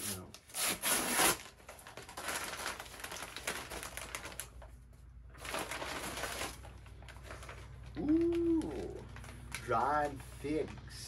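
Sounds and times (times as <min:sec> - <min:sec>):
paper bag crinkling and tearing: 0:00.0 - 0:11.0.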